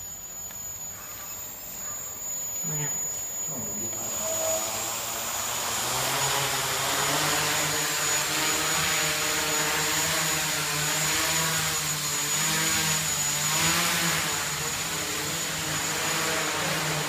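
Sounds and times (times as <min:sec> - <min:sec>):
drone motors and propellers whirring: 0:00.0 - 0:17.0.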